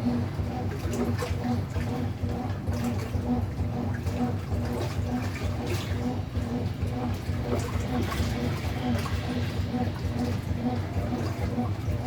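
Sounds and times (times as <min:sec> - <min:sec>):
washing machine motor humming: 0:00.0 - 0:12.0
water churning in tub: 0:00.0 - 0:12.0.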